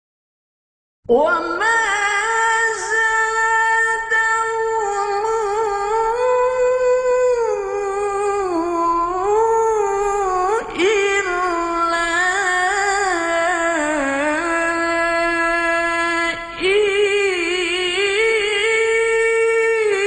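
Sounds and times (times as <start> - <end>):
person singing long held notes: 1.1 - 20.0.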